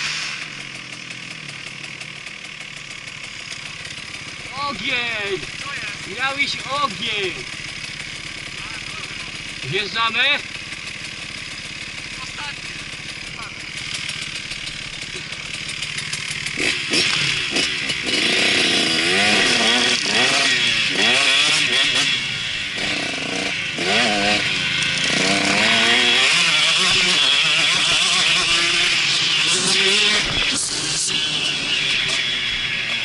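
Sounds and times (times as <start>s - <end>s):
motocross engine revving hard: 0.0s - 33.0s.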